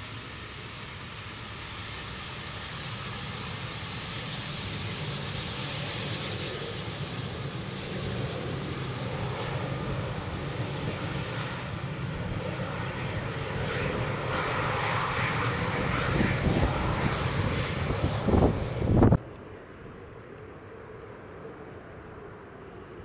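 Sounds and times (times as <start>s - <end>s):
jet engines rolling on runway: 0.0s - 23.0s.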